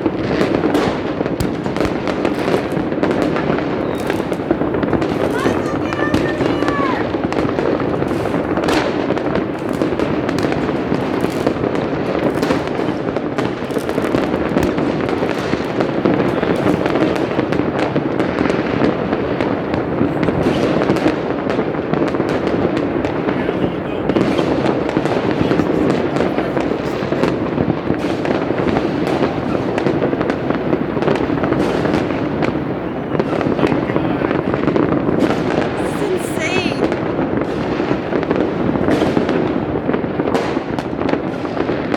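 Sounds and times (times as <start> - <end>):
fireworks bangs and crackles: 0.0 - 41.9
sharp firework reports: 0.0 - 41.9.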